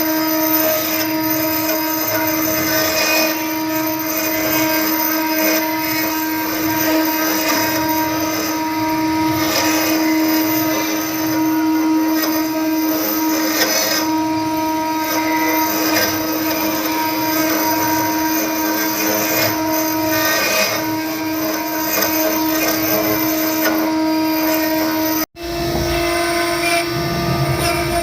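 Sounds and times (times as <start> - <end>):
cutting or grinding noise: 0.0 - 28.0
machine motor humming: 0.0 - 28.0.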